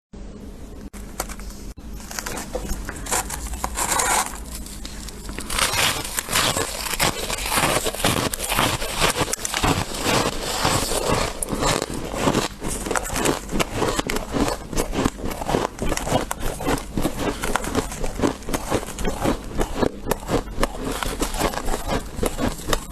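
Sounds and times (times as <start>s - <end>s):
faint low hum: 0.2s - 22.9s
person chewing crunchy frost: 1.2s - 22.9s.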